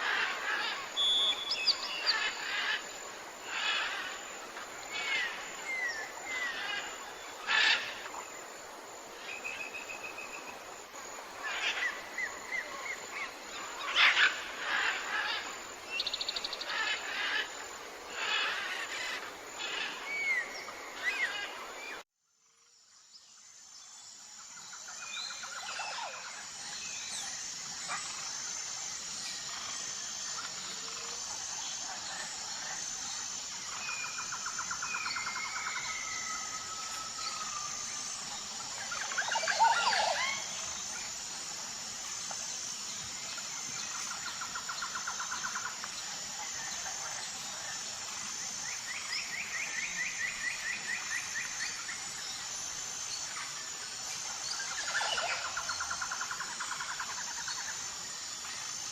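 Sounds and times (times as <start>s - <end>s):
forest birds calling and chirping: 0.0s - 8.4s, 9.1s - 22.0s, 23.2s - 58.9s
insect chorus: 0.0s - 58.9s.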